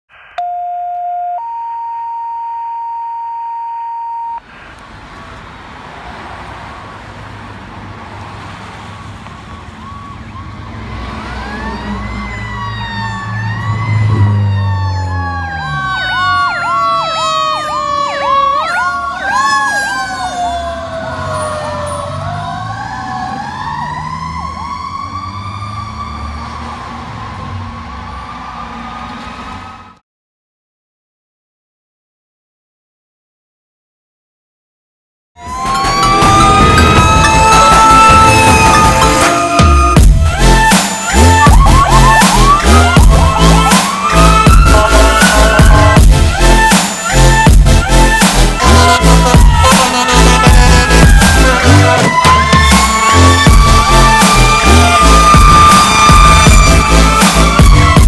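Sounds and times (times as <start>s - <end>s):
fire engine sirens: 0.1s - 4.4s, 5.0s - 30.0s, 35.4s - 58.0s
road traffic: 4.3s - 30.0s, 35.4s - 58.0s
truck engine rumble: 4.4s - 29.8s, 35.4s - 58.0s.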